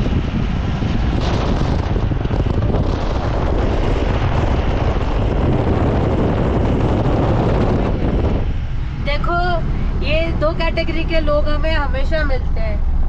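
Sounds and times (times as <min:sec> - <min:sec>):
vehicle rumble: 0:00.0 - 0:13.0
wind buffeting microphone: 0:00.0 - 0:13.0.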